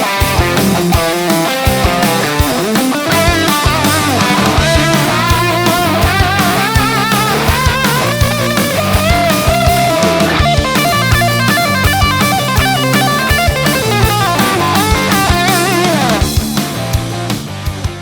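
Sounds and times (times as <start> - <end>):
electric guitar lead line: 0.0 - 18.0
steady drum beat: 0.0 - 18.0.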